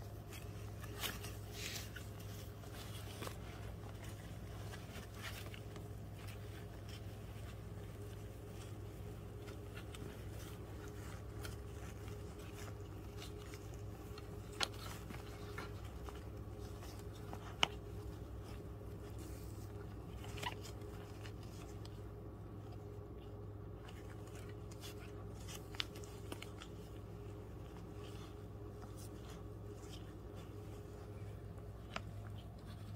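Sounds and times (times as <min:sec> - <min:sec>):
dog licking puppies: 0:00.0 - 0:32.9
low steady hum: 0:00.0 - 0:32.9
paper bedding rustling: 0:00.0 - 0:32.9.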